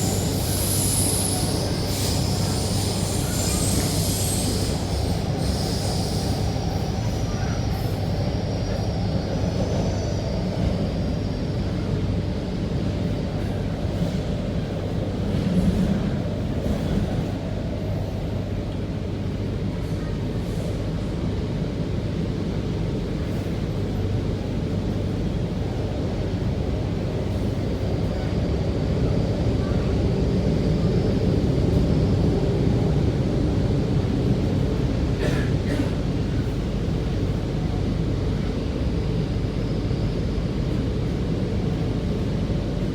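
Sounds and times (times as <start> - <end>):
metro train rumble: 0.0 - 42.9.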